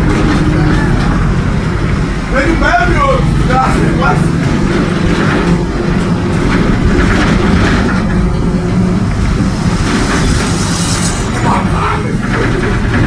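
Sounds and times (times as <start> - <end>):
bus diesel engine droning: 0.0 - 13.0
road noise: 0.0 - 13.0.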